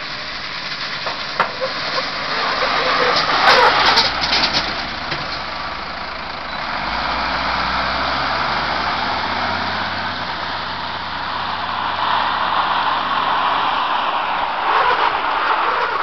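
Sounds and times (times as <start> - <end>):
fire engine diesel engine: 0.0 - 16.0
tyres hissing on wet pavement: 0.0 - 16.0.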